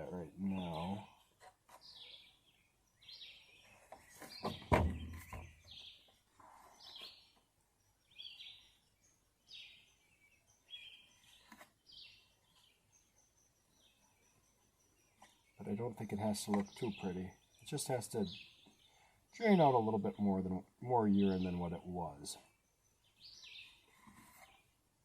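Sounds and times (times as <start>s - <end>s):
bird chirping: 0.0s - 24.8s.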